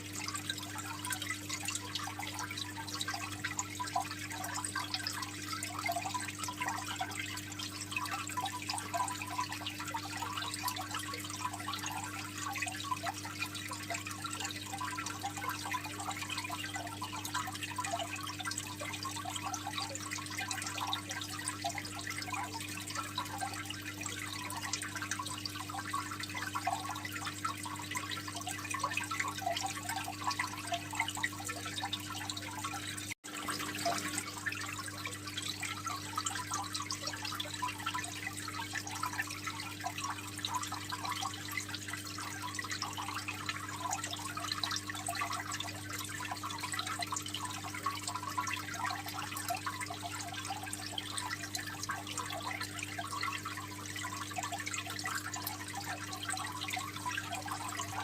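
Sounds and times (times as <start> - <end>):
water trickling in an aquarium: 0.0 - 58.0.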